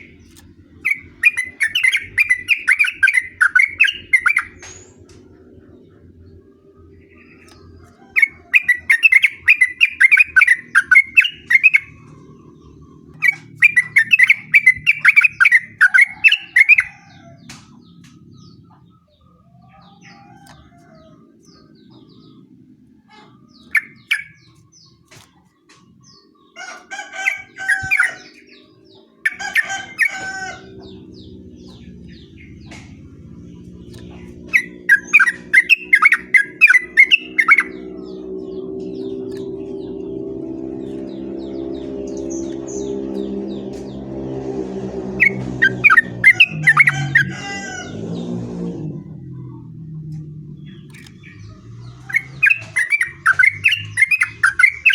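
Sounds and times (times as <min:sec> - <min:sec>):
bird singing bubbly notes: 0:00.0 - 0:19.4, 0:20.3 - 0:26.5, 0:27.6 - 0:44.3, 0:44.9 - 0:47.3, 0:49.0 - 0:54.9.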